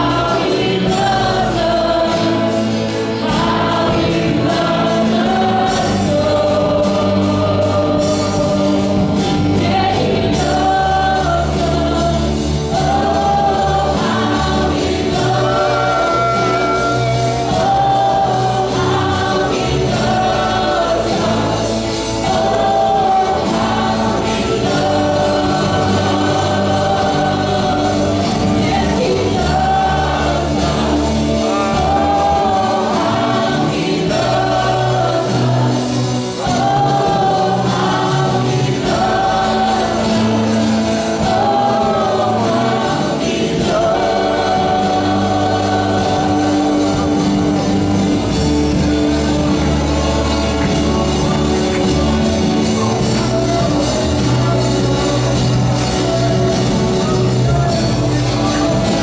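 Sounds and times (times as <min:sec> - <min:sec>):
group singing worship song: 0:00.0 - 0:59.0
instrumental backing: 0:00.0 - 0:59.0.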